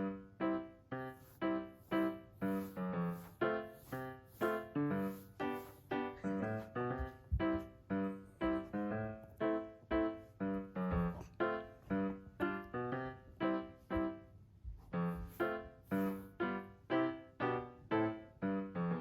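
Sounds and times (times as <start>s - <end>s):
keyboard melody: 0.0s - 19.0s.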